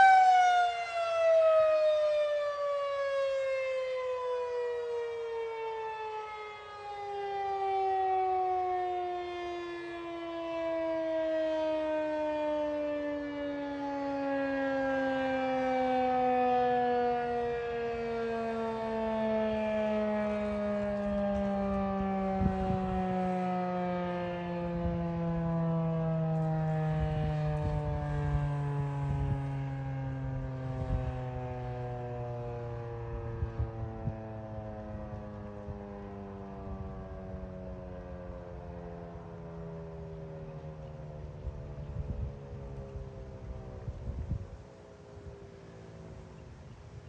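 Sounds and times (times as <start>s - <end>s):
rotating siren winding down: 0.0s - 46.5s.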